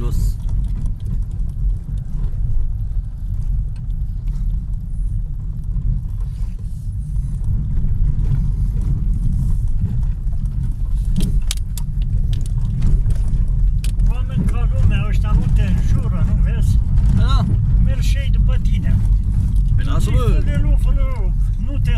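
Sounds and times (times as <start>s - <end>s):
car driving on gravel: 0.0s - 21.9s
gravel clicks and rattles: 0.0s - 21.9s.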